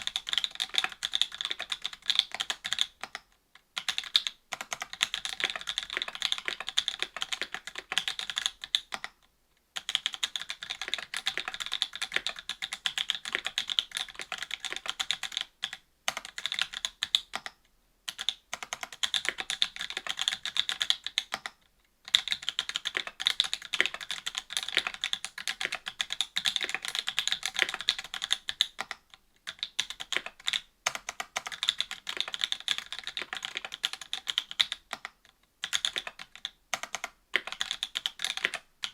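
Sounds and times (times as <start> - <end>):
fast typing on mechanical keyboard: 0.0 - 9.2, 9.8 - 38.9.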